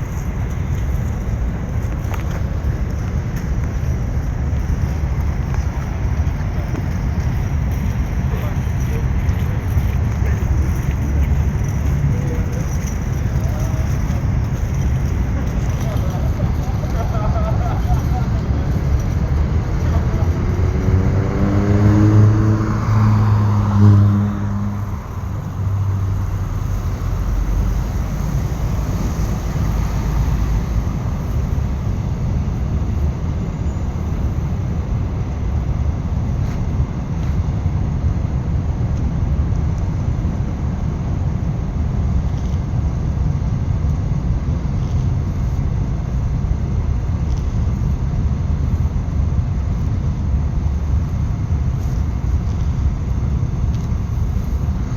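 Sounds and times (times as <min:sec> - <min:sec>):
freight train wagons rumbling: 0:00.0 - 0:54.9.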